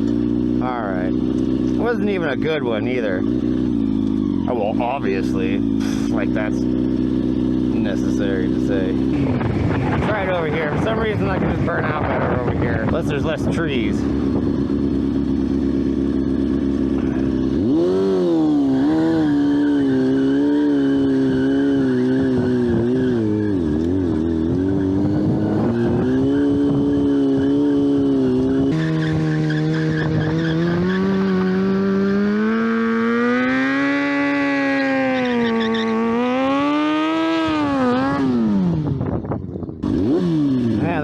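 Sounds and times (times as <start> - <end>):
motorcycle engine revving hard: 0.0 - 41.0.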